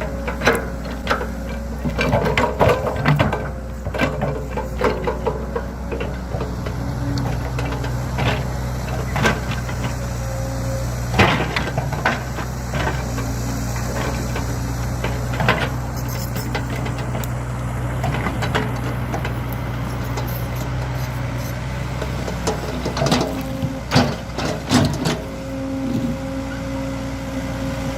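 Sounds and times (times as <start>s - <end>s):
knocks and rattles of metal and wood: 0.0s - 10.2s, 11.0s - 21.3s, 21.9s - 26.0s
excavator diesel engine running: 0.0s - 27.9s.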